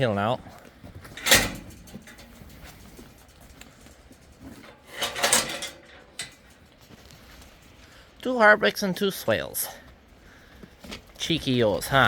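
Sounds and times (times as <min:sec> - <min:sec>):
sheep shuffling: 0:00.0 - 0:05.1, 0:05.7 - 0:12.0
sheep hooves clattering: 0:00.0 - 0:12.0.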